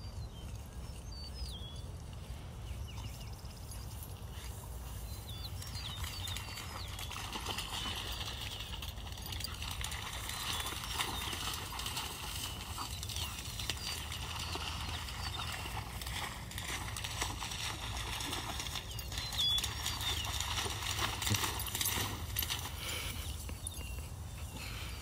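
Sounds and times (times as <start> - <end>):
small birds chirping: 0.0 - 25.0
light ticks and rustles: 0.2 - 25.0.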